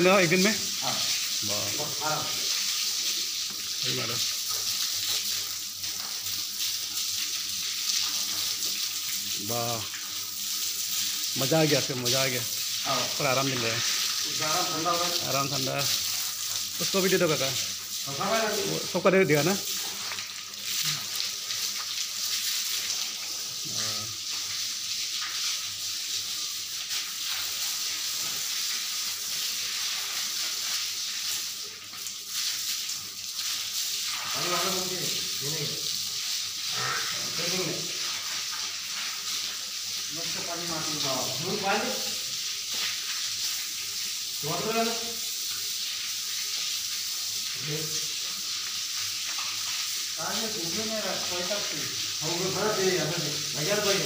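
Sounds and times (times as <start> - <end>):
water spraying on concrete floor: 0.0 - 54.0.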